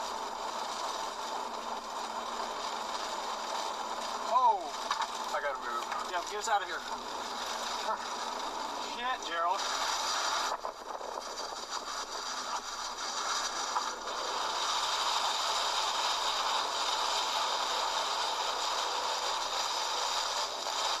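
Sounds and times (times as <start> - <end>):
rain: 0.0 - 21.0
wind: 0.0 - 21.0.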